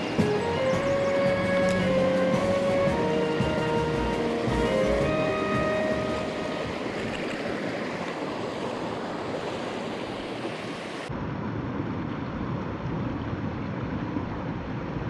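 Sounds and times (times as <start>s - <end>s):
mountain stream rushing: 0.0s - 12.5s.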